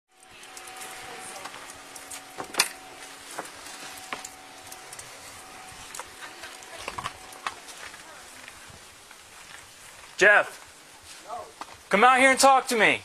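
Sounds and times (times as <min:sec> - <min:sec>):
faint steady hum: 0:00.1 - 0:11.9.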